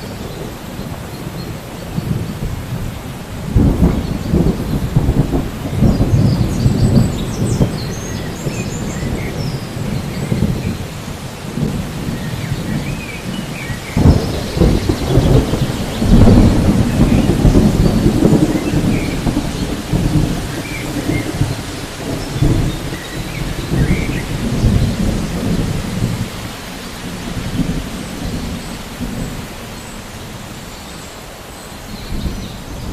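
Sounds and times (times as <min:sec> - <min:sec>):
rolling thunder: 0:00.0 - 0:30.3
steady rain: 0:00.0 - 0:32.9.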